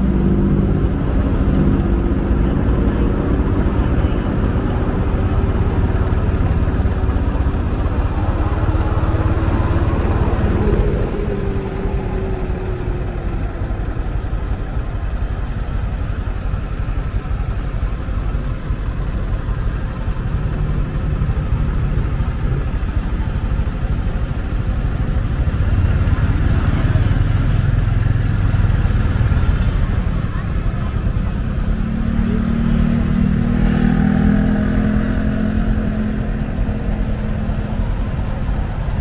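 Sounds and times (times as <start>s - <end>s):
motorcycle engine running: 0.0s - 39.0s
surrounding traffic: 0.0s - 39.0s.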